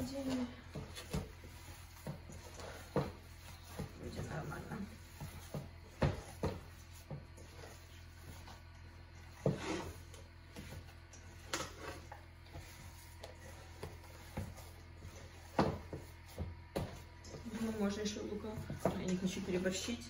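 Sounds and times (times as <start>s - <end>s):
hands mixing meat in a bowl: 0.0s - 20.0s.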